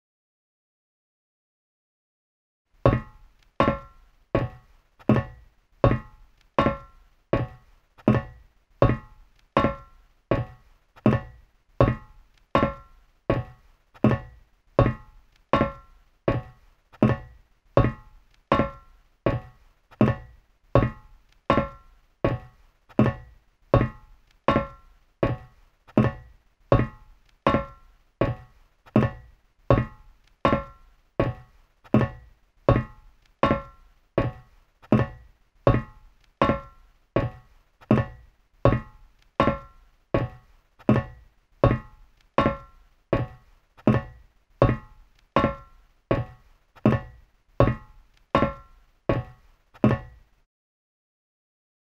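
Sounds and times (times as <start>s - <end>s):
heavy boots on metal floor: 2.8s - 50.4s.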